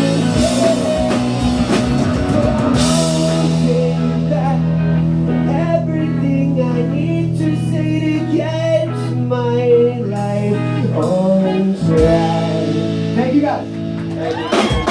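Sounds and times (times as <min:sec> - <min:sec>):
drums: 0:00.0 - 0:09.2, 0:10.0 - 0:14.9
bass guitar: 0:00.0 - 0:14.9
electric guitar: 0:00.0 - 0:14.9
person singing: 0:00.0 - 0:14.9.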